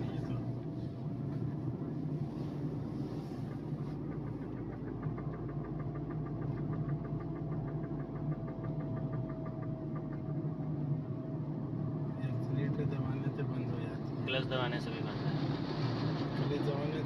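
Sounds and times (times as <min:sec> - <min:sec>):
road and engine noise: 0:00.0 - 0:17.0.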